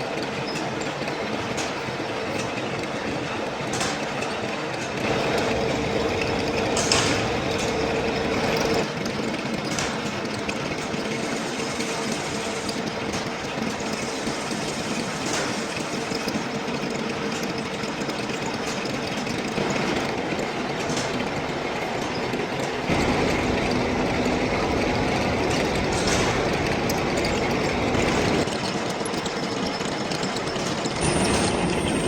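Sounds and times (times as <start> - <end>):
lathe running with hum: 4.5 - 9.6, 10.2 - 32.0.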